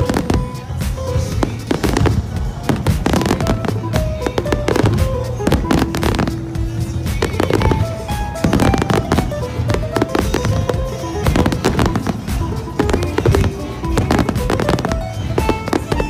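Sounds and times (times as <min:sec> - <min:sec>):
fireworks bursting: 0:00.0 - 0:16.0
music playing: 0:00.0 - 0:16.0.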